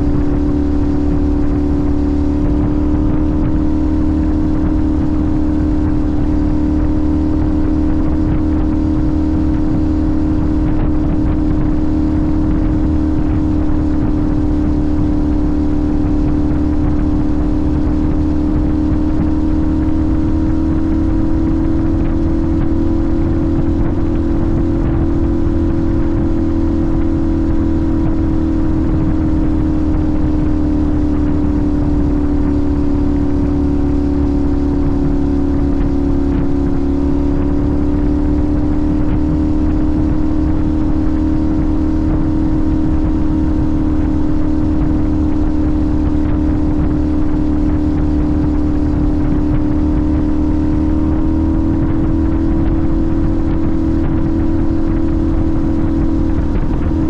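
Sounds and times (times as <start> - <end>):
motorcycle engine cruising: 0.0 - 57.0
steady low rush: 0.0 - 57.0.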